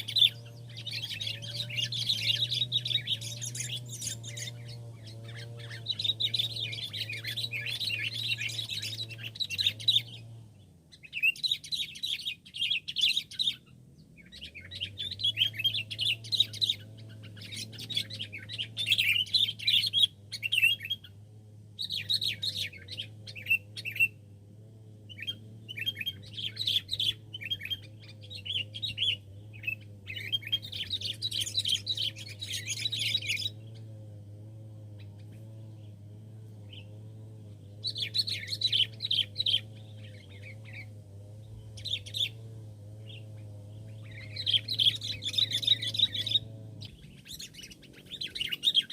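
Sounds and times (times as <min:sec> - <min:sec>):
birds chattering and chirping: 0:00.0 - 0:48.9.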